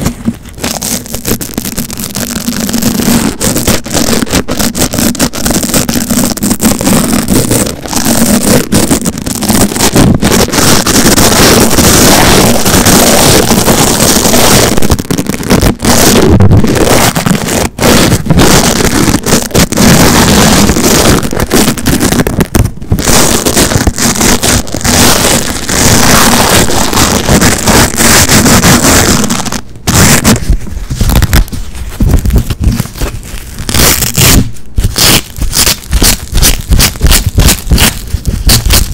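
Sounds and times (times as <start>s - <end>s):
velcro straps tearing: 0.0s - 38.9s.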